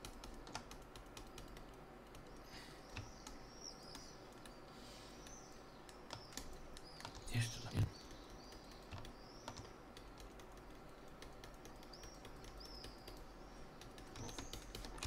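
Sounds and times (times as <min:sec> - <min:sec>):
keyboard and mouse clicks: 0:00.0 - 0:04.6, 0:05.2 - 0:07.3, 0:07.9 - 0:15.0.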